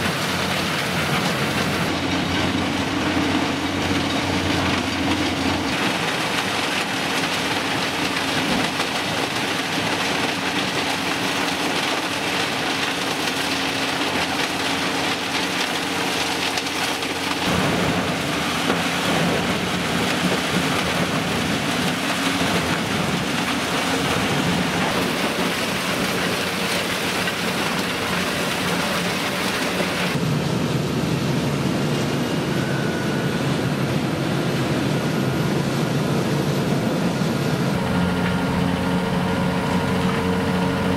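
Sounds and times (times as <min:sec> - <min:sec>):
wood chipper chipping wood: 0:00.0 - 0:30.2, 0:37.7 - 0:40.9
heavy engine: 0:00.0 - 0:40.9.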